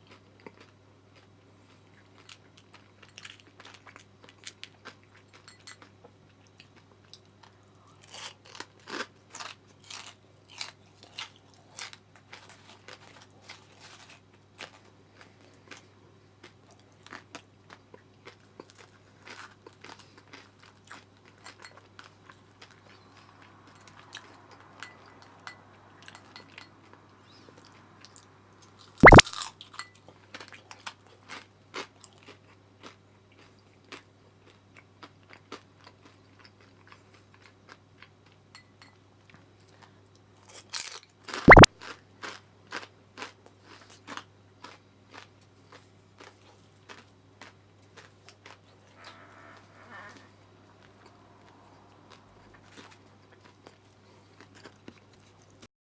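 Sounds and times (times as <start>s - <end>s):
crunching and chewing food: 0.0s - 55.7s.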